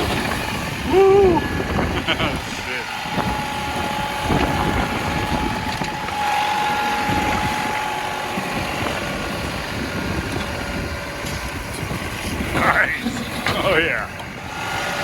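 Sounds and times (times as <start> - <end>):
high whine: 0.0 - 15.0
tractor diesel engine running: 0.0 - 15.0.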